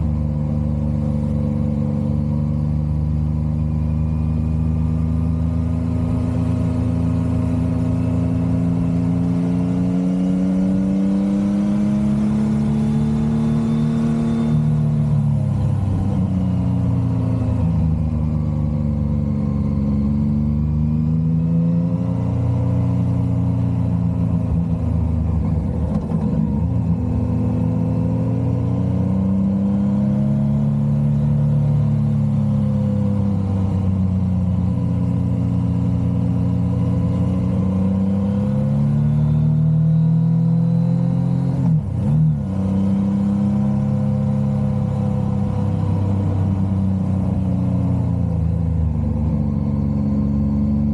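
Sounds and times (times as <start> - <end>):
motorcycle engine revving: 3.0 - 50.9.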